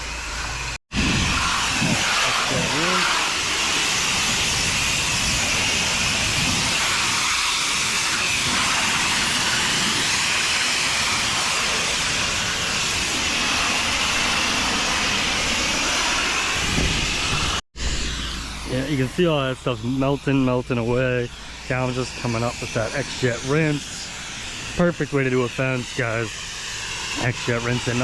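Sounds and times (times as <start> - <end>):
pressure washer spraying: 0.0 - 28.0.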